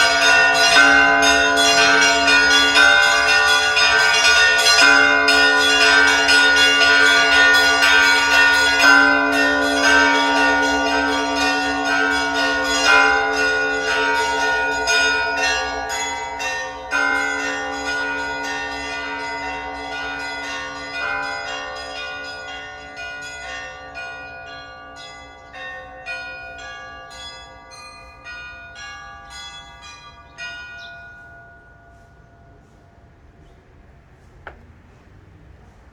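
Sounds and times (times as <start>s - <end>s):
smaller higher bells ringing: 0.0s - 32.6s
deep church bell: 0.0s - 34.6s.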